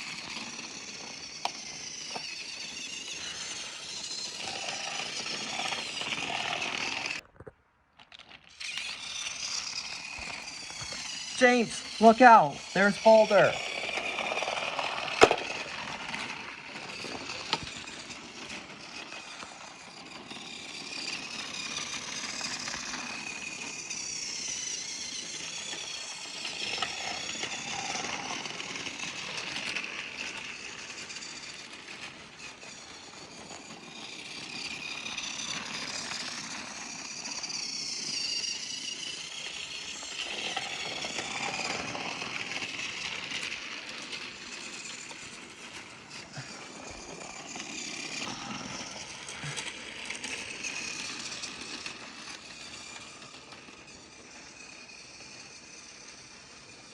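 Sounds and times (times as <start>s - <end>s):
toy train motor whirring: 0.0s - 56.9s.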